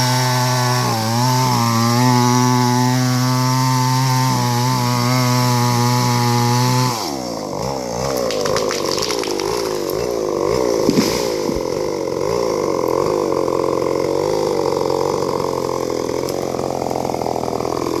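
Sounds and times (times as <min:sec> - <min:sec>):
chainsaw running: 0:00.0 - 0:18.0.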